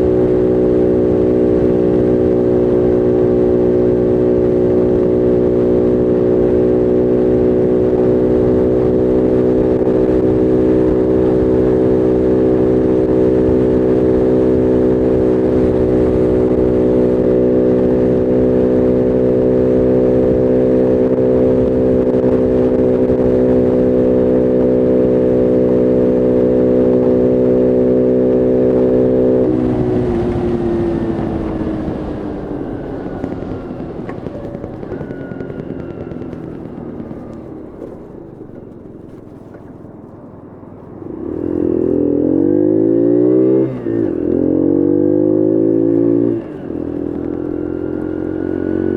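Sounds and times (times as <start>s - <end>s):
small motorbike engine running: 0.0s - 40.2s.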